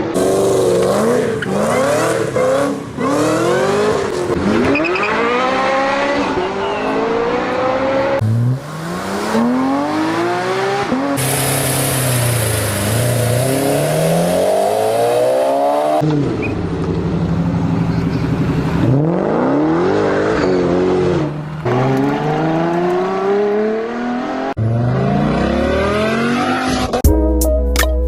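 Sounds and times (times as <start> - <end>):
car engines revving and accelerating: 0.0 - 27.0.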